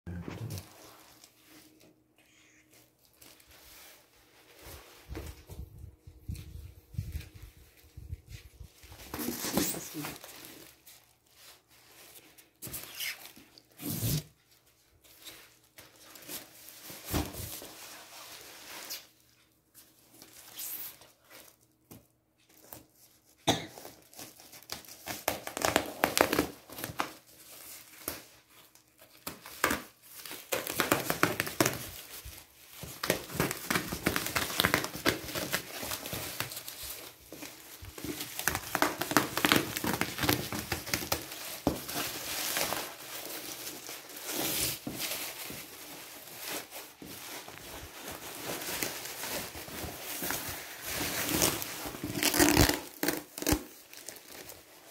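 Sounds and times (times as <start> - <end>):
bubble wrap crinkling and tearing: 2.7 - 54.9.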